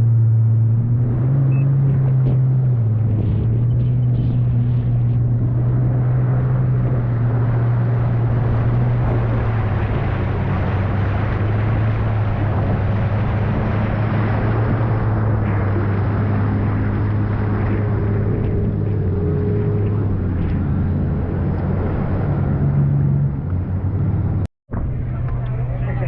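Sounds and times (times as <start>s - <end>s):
jet ski engine running: 0.0s - 26.0s
wind and water rushing: 0.2s - 24.5s.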